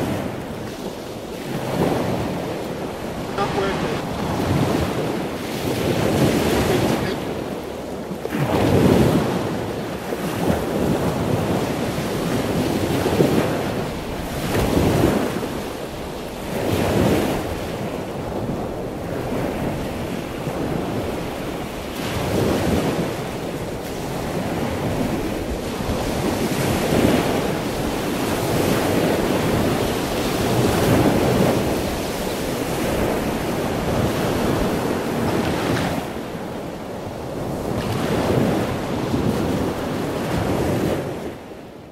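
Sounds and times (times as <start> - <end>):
surf washing on a beach: 0.0 - 41.9
wind rushing over microphone: 0.0 - 41.9.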